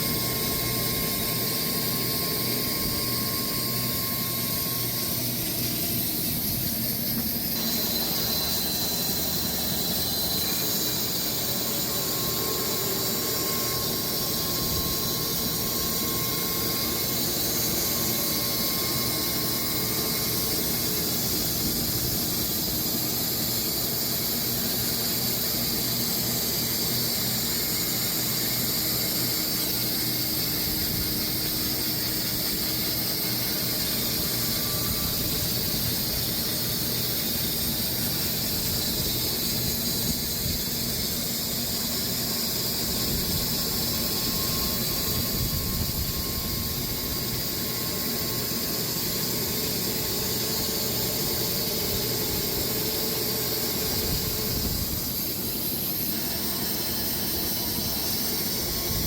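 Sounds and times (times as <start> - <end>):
saw blade whining through log: 0.0 - 59.0.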